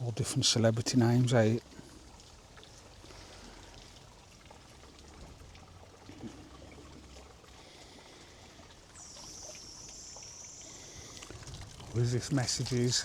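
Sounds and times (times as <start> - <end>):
fountain water trickling: 0.0 - 13.0.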